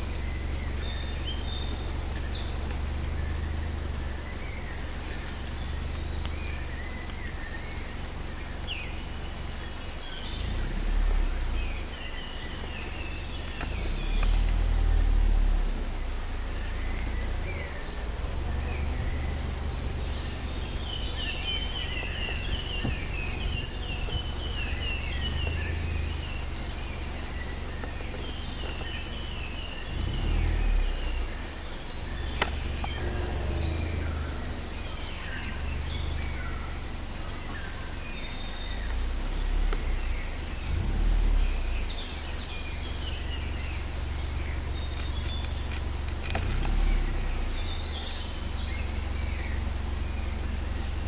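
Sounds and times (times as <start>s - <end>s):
forest birds chirping: 0.0s - 51.0s
steady low rumble: 0.0s - 51.0s.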